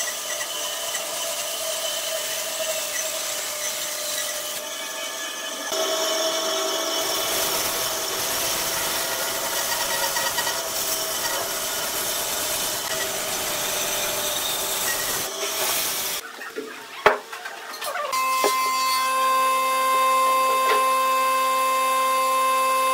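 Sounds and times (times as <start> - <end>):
band saw cutting through log: 0.0 - 16.2, 18.2 - 22.9.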